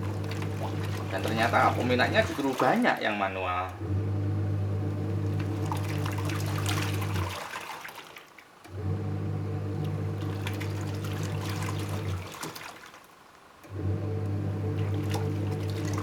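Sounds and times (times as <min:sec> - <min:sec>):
washing machine motor humming: 0:00.0 - 0:12.9, 0:13.6 - 0:16.0
water churning and splashing: 0:00.0 - 0:16.0.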